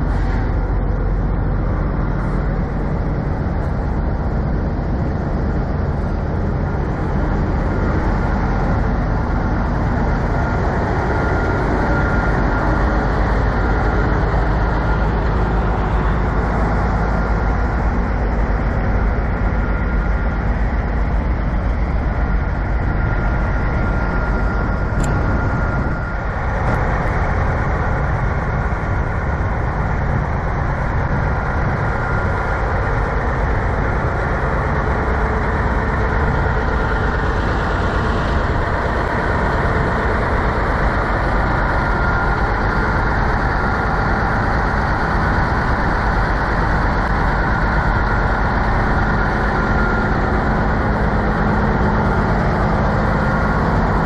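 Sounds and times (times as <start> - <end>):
diesel engines idling: 0.0 - 54.0
thin steady whine: 0.0 - 54.0.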